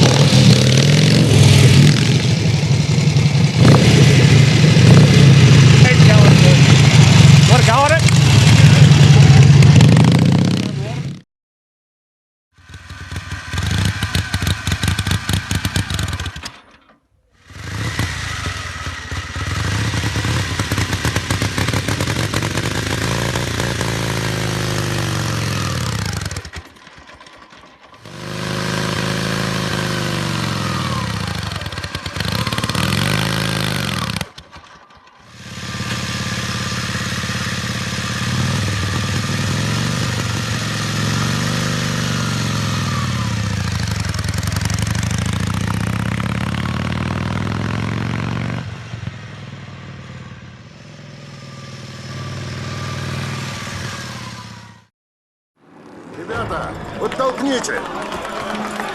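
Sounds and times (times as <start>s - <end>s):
motorcycle engine revving: 0.0s - 11.2s, 12.5s - 54.9s.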